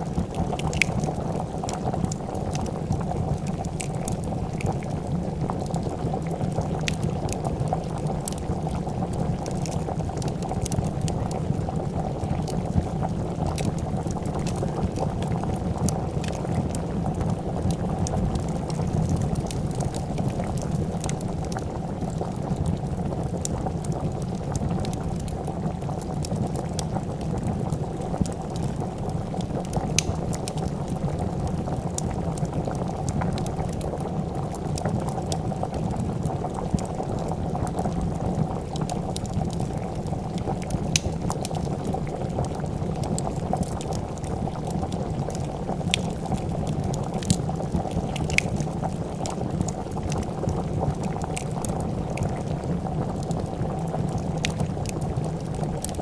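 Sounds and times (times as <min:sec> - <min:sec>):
soup boiling and bubbling: 0:00.0 - 0:56.0
wood fire crackling: 0:00.0 - 0:56.0.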